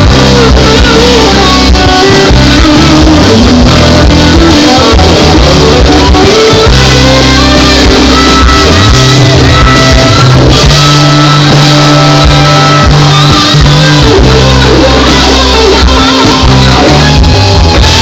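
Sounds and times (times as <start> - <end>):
live worship band playing: 0.0 - 18.0.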